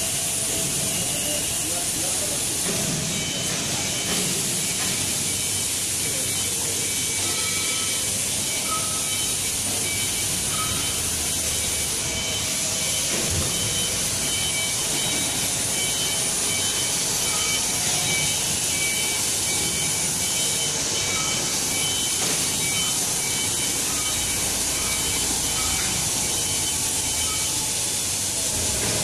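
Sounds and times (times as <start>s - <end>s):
machine high hiss: 0.0s - 29.0s.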